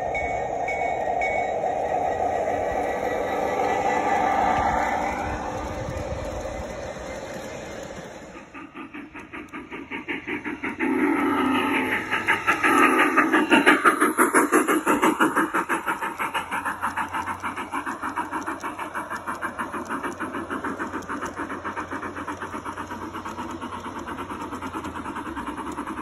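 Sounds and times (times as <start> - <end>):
model steam locomotive running: 0.0 - 26.0.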